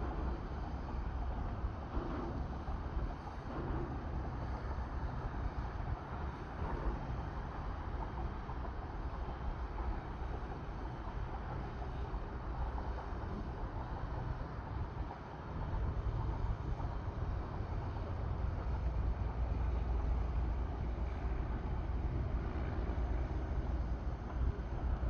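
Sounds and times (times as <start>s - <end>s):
boat engines rumbling: 0.0s - 25.0s.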